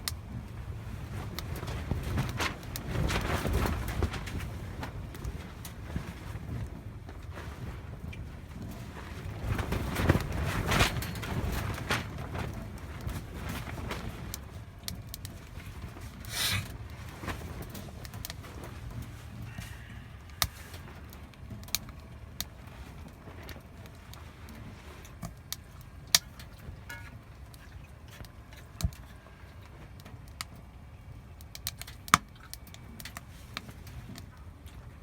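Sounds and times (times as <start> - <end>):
firewood crackling and popping: 0.0 - 30.6, 31.2 - 34.4
low steady rumble: 0.0 - 35.0.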